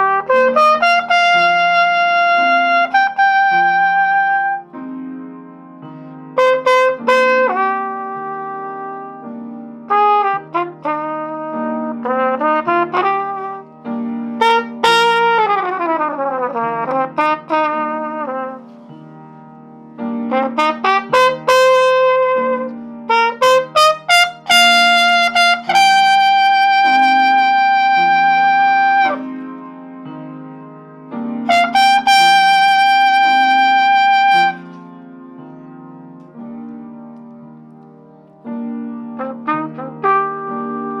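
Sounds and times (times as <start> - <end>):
trumpet-like brass melody: 0.0 - 37.7, 38.4 - 41.0.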